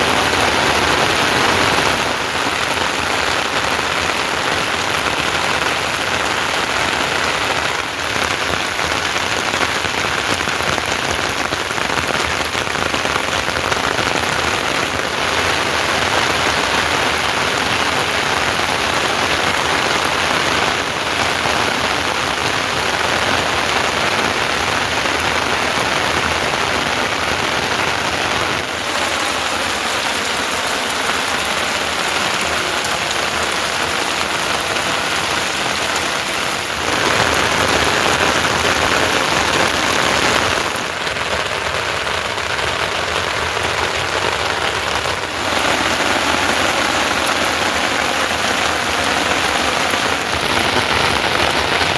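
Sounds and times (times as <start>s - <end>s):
rain pattering on surfaces: 0.0s - 51.9s.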